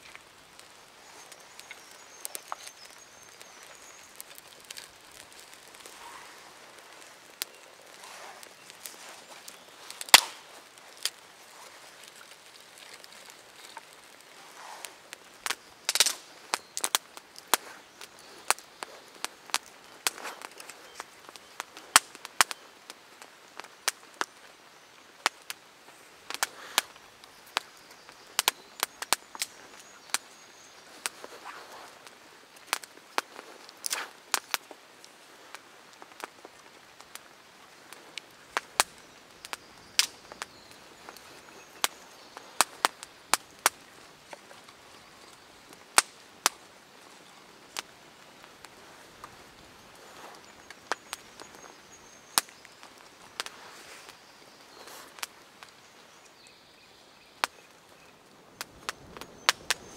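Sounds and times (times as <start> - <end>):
campfire crackling and popping: 0.0 - 59.9
faint steady hiss: 0.0 - 59.9.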